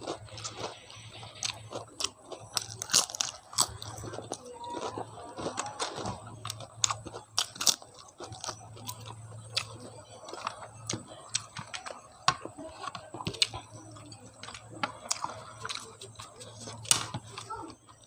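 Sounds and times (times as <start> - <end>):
chewing food with wet mouth clicks: 0.0 - 18.0.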